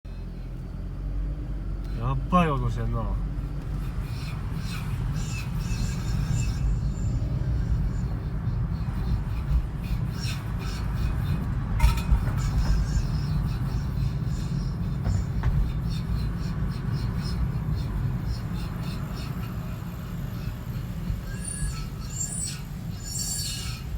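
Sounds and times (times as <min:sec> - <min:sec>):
steady low rumble: 0:00.1 - 0:23.0.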